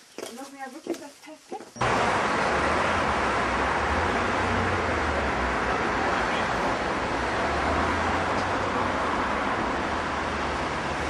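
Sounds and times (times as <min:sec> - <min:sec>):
city street traffic: 0:00.0 - 0:11.0
low traffic rumble: 0:01.7 - 0:11.0.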